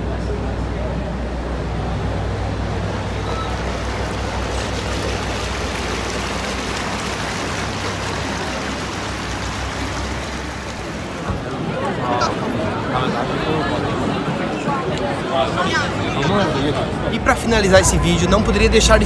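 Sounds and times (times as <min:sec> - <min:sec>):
boat engine humming: 0:00.0 - 0:19.0
outdoor noise: 0:00.0 - 0:19.0.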